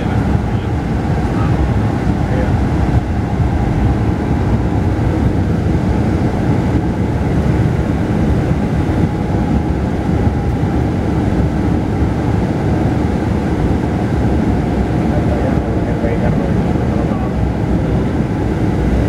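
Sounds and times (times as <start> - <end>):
bus engine drone: 0.0 - 19.0
road rumble: 0.0 - 19.0.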